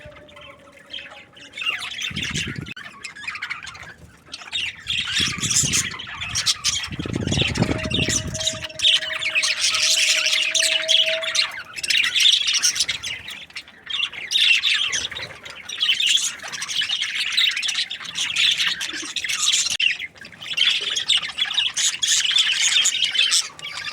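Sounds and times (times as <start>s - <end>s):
budgerigars chattering and squawking: 0.0s - 23.9s.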